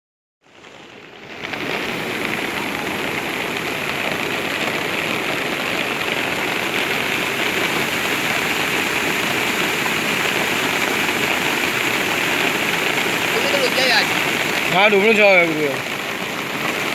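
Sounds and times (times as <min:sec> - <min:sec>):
rushing churning water: 0:00.4 - 0:16.9.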